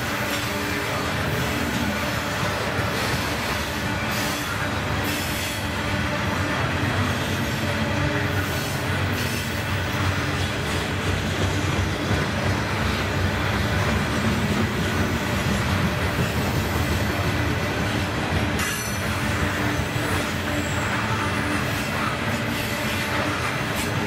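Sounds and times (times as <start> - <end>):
train rolling past: 0.0 - 24.0.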